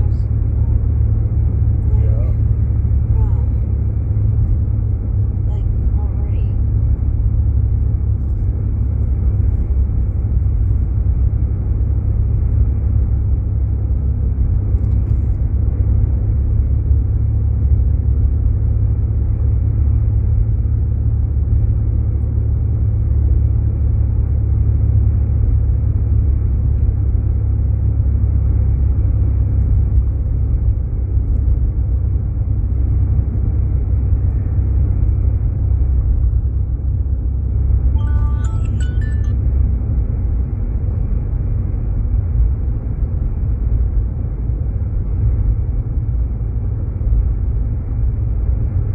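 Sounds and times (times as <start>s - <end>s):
car interior road and engine rumble: 0.0s - 48.9s.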